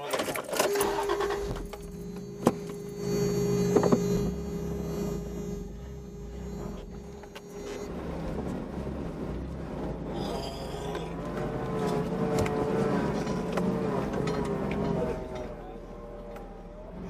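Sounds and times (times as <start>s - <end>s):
steady hum: 0.5s - 17.0s
truck engine running: 0.6s - 17.0s.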